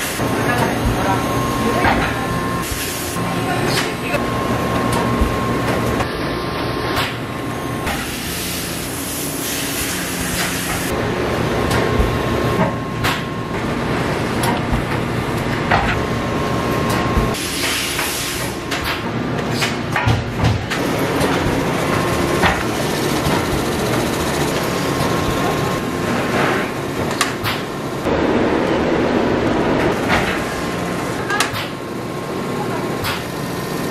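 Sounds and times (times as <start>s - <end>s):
machinery hum: 0.0s - 33.9s.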